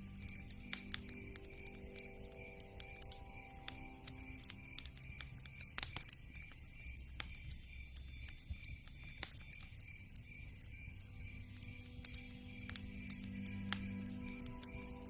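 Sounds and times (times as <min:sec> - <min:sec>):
campfire crackling and popping: 0:00.0 - 0:15.0
night insects chirping: 0:00.0 - 0:15.0.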